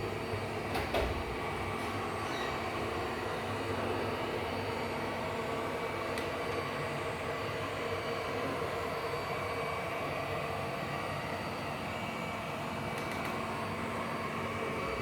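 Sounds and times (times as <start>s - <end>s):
floor-washing robot motor hum: 0.0s - 15.0s.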